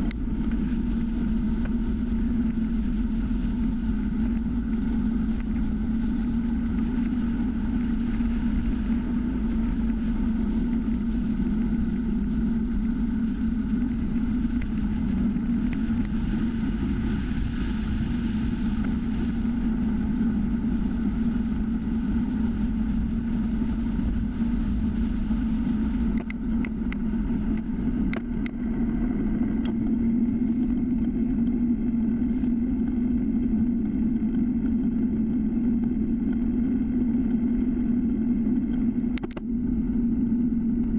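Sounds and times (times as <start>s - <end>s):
bicycle tyre rumble on asphalt: 0.0s - 40.9s
wind buffeting camera: 0.0s - 40.9s
wind rush: 0.0s - 40.9s.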